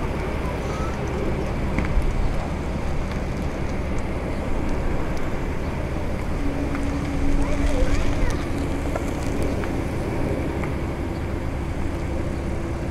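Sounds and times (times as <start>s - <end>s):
cars driving slowly past: 0.0s - 12.9s.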